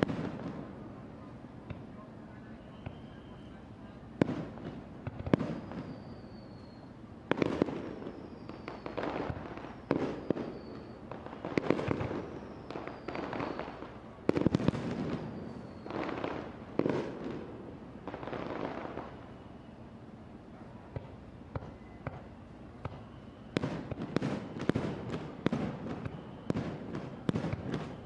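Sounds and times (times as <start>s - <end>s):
fireworks bursting with crackle: 0.0s - 2.0s, 2.6s - 19.8s, 20.7s - 28.0s
falling fireworks whistles: 0.0s - 28.0s.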